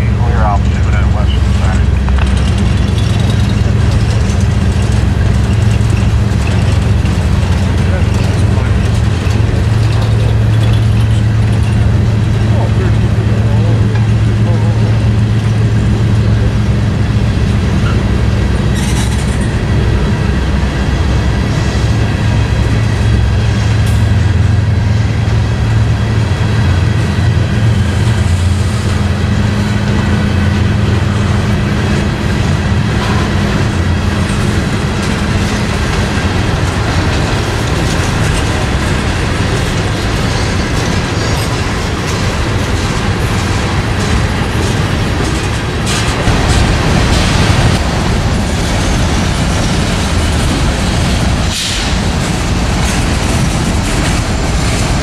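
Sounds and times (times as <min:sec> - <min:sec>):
low drone: 0:00.0 - 0:55.0
train wheels rumbling on rails: 0:00.0 - 0:55.0.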